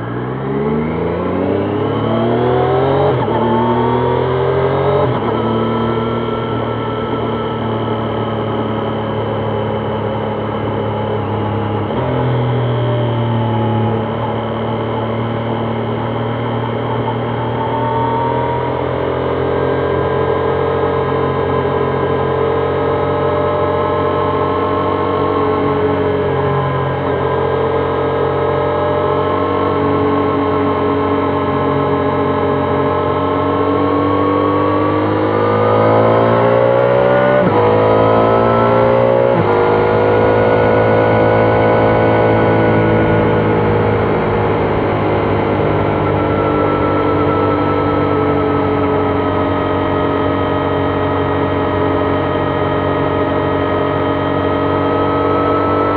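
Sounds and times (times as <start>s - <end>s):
motorcycle engine riding: 0.0s - 55.9s.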